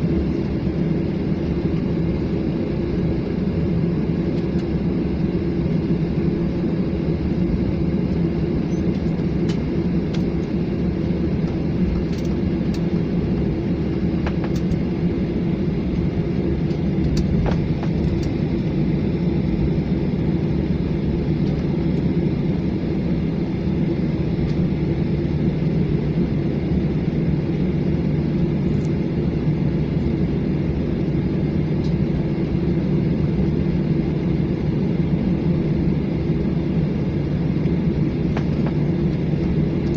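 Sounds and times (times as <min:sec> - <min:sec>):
jet airliner engine rumble: 0:00.0 - 0:39.9.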